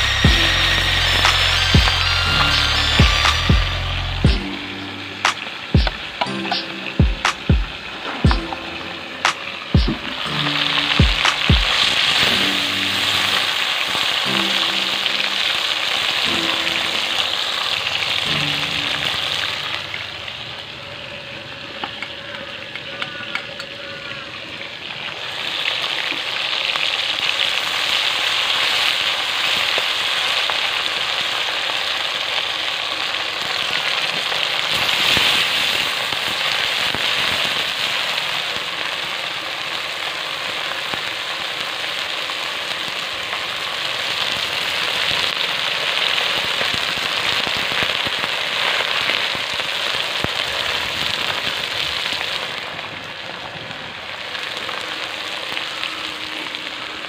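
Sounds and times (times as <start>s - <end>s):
fish frying in hot oil: 0.0s - 9.3s, 10.0s - 57.0s.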